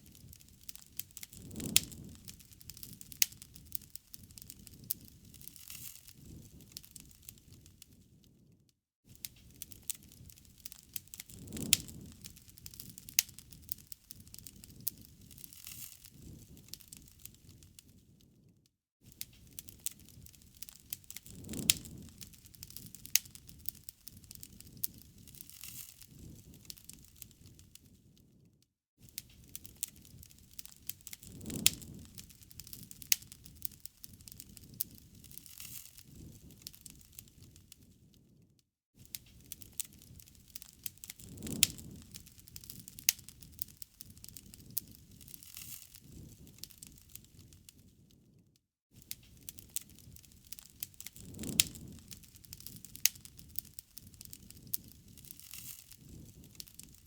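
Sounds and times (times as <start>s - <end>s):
wood fire crackling and popping: 0.0s - 8.5s, 9.1s - 18.4s, 19.0s - 38.4s, 39.0s - 48.4s, 49.0s - 57.0s
low rumble of flame: 0.0s - 48.4s, 49.0s - 57.0s.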